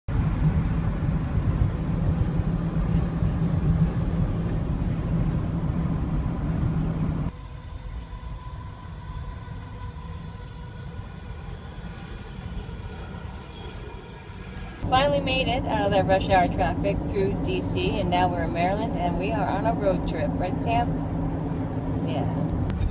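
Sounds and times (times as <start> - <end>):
car engine and road rumble: 0.1 - 22.9
faint steady hum: 0.1 - 22.9.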